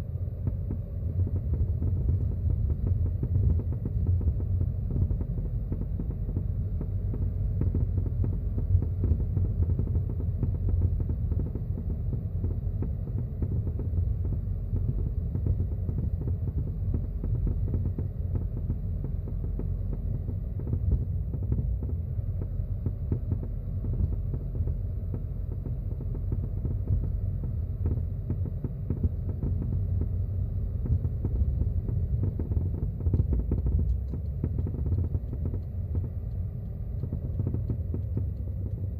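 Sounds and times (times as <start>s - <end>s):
road and drivetrain rumble: 0.0s - 38.9s.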